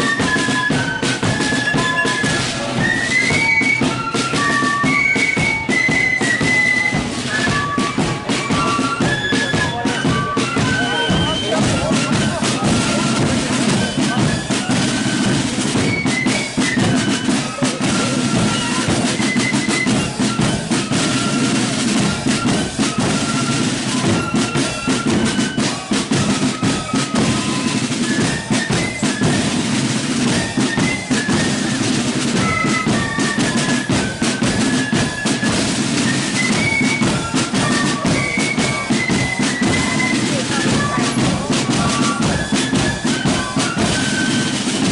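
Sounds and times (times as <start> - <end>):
flutes playing melody: 0.0 - 44.9
snare drums: 0.0 - 44.9.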